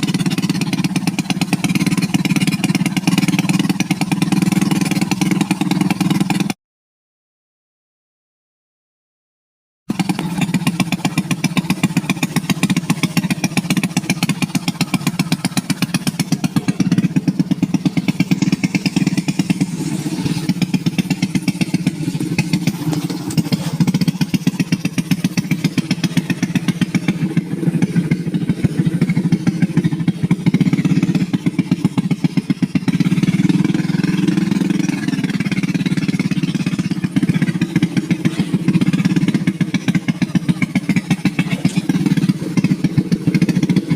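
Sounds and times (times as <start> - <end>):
small motorcycle engine running: 0.0 - 6.6, 9.9 - 43.9.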